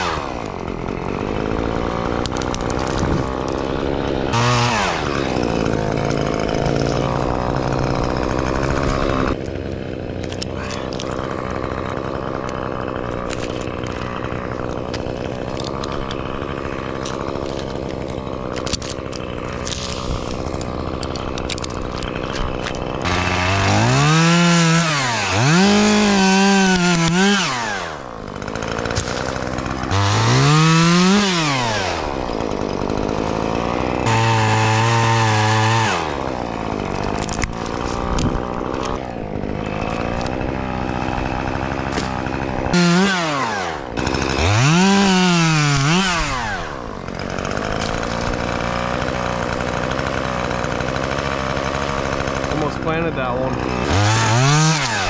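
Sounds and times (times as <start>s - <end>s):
chainsaw cutting limbs: 0.0s - 55.0s
chainsaw idling: 0.0s - 55.0s.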